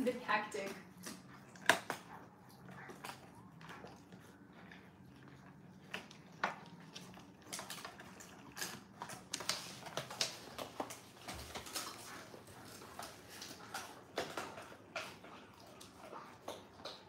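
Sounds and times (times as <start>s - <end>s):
dog gnawing a hard chew: 0.6s - 17.0s.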